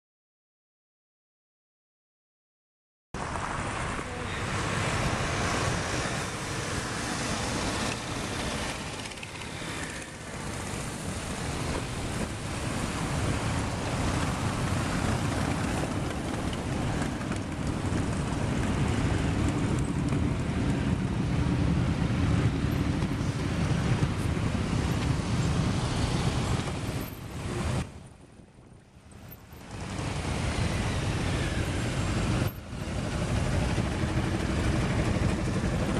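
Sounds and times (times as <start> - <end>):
motorcycles riding past: 3.2 - 27.8, 29.5 - 35.9.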